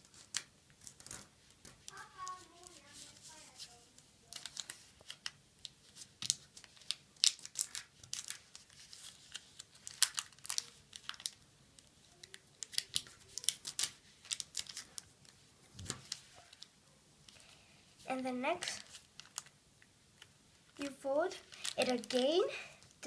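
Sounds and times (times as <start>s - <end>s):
paper folding crackles: 0.0s - 19.6s, 20.2s - 23.0s.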